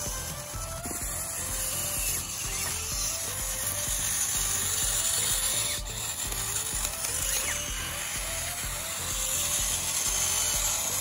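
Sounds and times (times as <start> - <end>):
toy bulldozer tracks grinding: 0.0 - 11.0.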